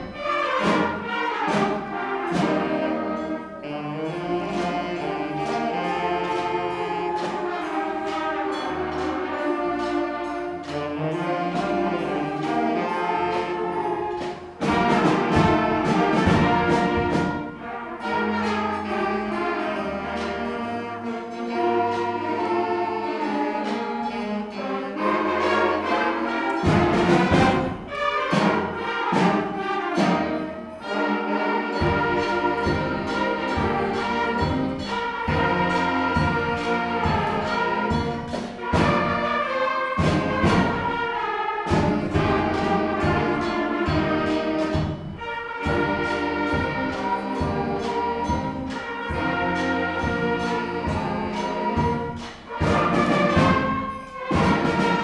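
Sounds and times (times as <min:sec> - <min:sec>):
concert band playing: 0:00.0 - 0:55.0
regular drum beat: 0:00.0 - 0:55.0.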